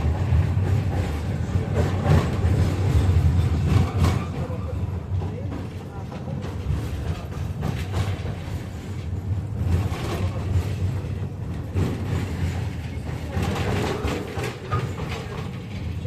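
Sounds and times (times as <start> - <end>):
tram rattling: 0.0 - 16.0
tram rumbling on rails: 0.0 - 16.0.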